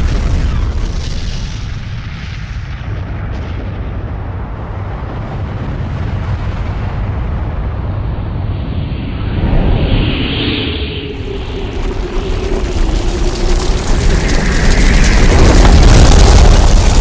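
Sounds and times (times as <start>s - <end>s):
explosion rumble with crackle: 0.0s - 17.0s.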